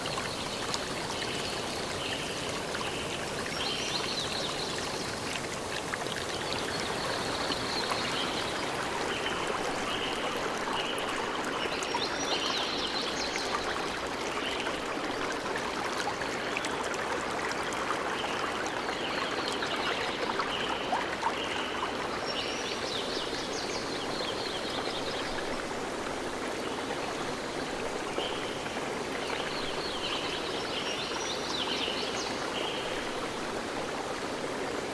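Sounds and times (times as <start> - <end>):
stream flowing: 0.0 - 34.9.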